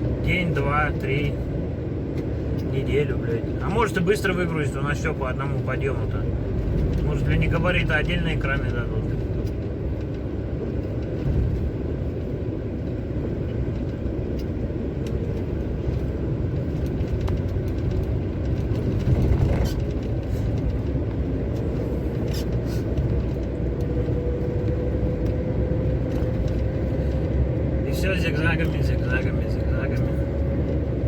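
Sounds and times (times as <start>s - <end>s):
road noise: 0.0s - 31.0s
truck engine drone: 0.0s - 31.0s.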